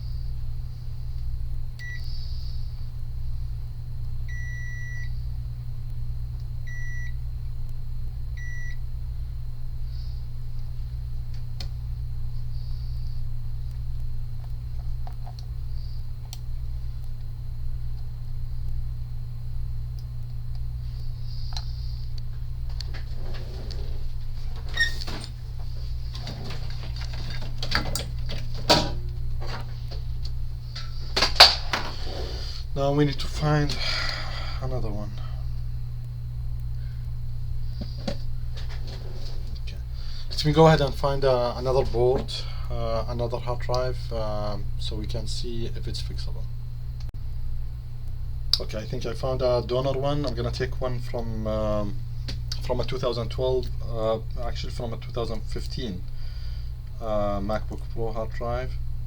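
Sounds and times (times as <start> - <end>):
low hum of electronics equipment: 0.0 - 59.0.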